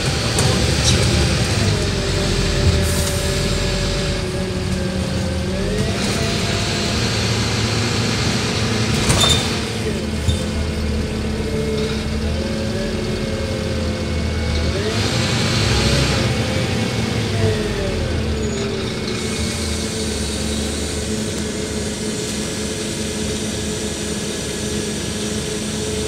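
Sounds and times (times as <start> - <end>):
bus engine and drivetrain whine: 0.0 - 26.0.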